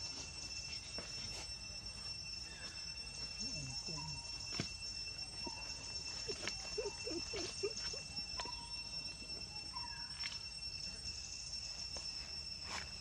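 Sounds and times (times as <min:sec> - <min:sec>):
faint chirps: 0:00.0 - 0:13.0
high-pitched insect drone: 0:00.0 - 0:13.0.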